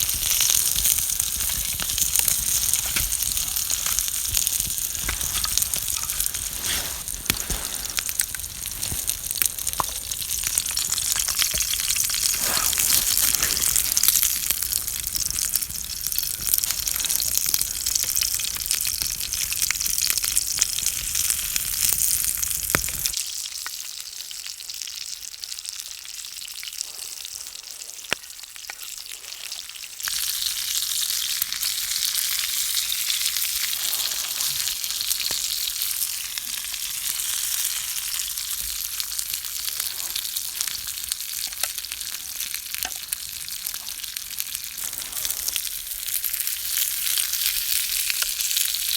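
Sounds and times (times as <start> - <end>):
food sizzling in a pan: 0.0 - 48.9.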